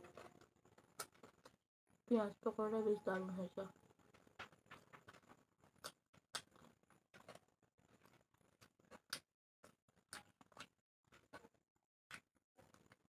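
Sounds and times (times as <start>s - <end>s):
faint crunchy chewing: 0.0s - 1.6s, 4.1s - 13.0s.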